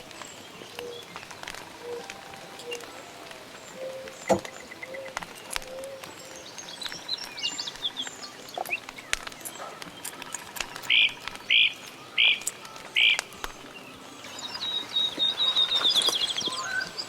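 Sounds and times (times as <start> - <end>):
sharp crack: 0.0 - 16.6
birds chirping and twittering: 0.0 - 17.0
campfire crackling: 0.0 - 17.0.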